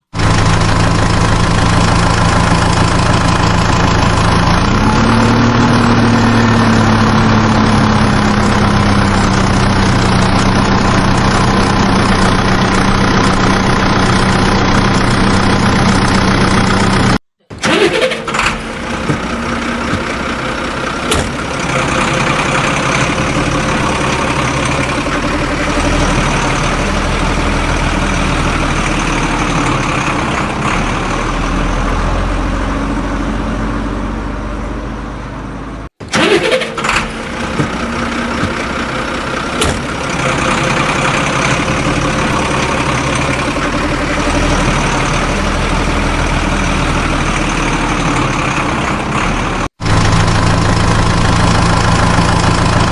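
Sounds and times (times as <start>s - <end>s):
vehicle engine idling: 0.0s - 52.9s
engine start-up burst: 0.1s - 33.8s, 35.4s - 52.9s.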